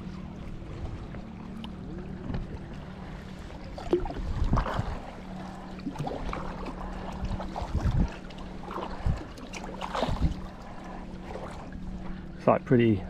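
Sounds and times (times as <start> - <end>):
steady low hum: 0.0 - 13.0
paddle splashing in water: 0.7 - 12.2.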